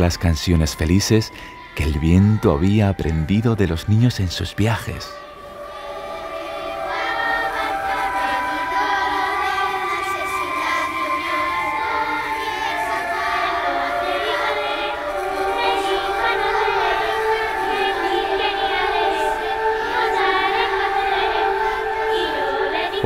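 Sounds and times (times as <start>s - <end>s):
soundtrack music with choir: 0.0s - 23.0s.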